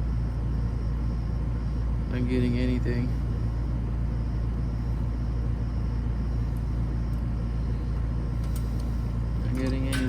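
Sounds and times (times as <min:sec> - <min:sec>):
air conditioner hum and rumble: 0:00.0 - 0:10.0.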